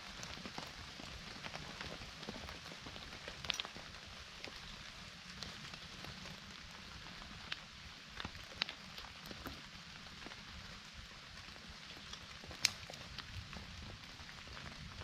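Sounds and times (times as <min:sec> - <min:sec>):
rain falling: 0:00.0 - 0:15.0
raindrops ticking on surfaces: 0:00.0 - 0:15.0.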